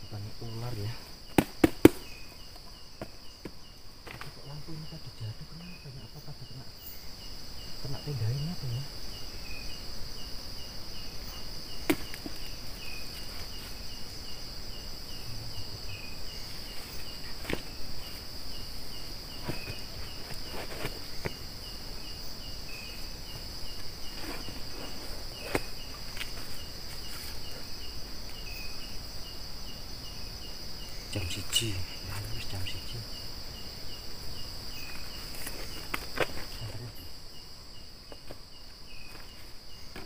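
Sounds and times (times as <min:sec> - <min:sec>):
cricket chirping: 0:00.0 - 0:40.0
insect drone: 0:00.0 - 0:40.0.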